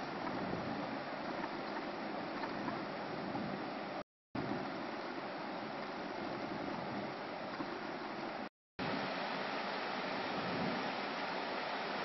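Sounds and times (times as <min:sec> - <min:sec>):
river rushing over rocks: 0:00.6 - 0:12.0.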